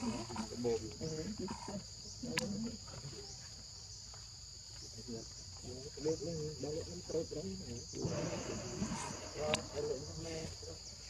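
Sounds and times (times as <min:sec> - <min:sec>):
insect chorus drone: 0:00.0 - 0:11.0.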